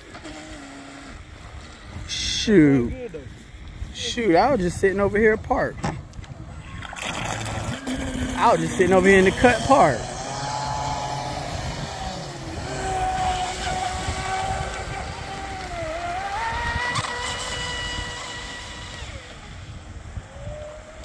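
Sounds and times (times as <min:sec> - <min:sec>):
rc boat motor whine: 0:00.0 - 0:05.4, 0:06.8 - 0:21.0.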